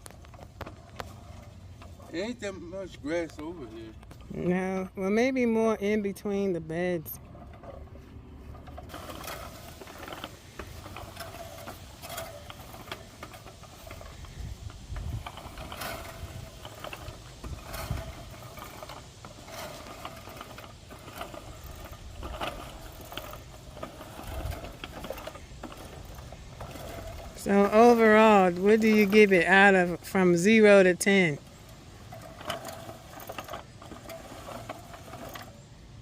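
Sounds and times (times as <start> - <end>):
reel mower clicking and whirring: 0.0 - 36.0.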